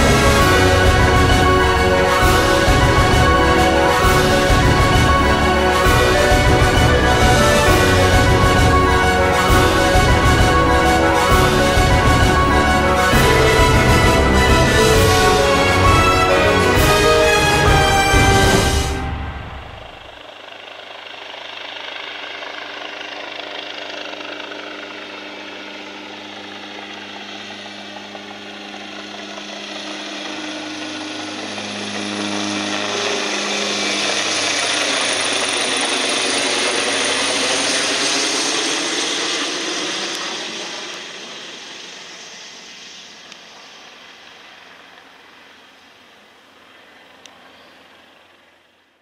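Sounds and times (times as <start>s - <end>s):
helicopter rotor and turbine: 0.0s - 49.0s.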